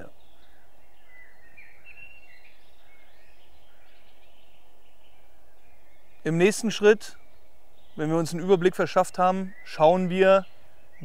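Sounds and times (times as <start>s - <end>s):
soft background hiss: 0.0s - 11.0s
songbirds chirping and whistling: 0.0s - 11.0s.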